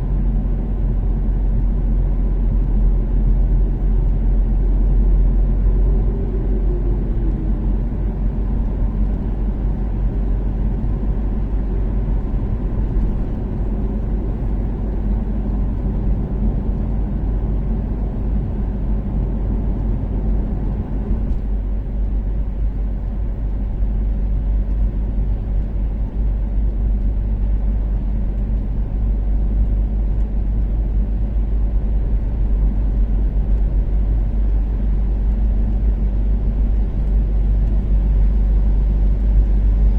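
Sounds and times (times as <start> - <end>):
car engine cruising: 0.0 - 39.9
low road rumble: 0.0 - 39.9.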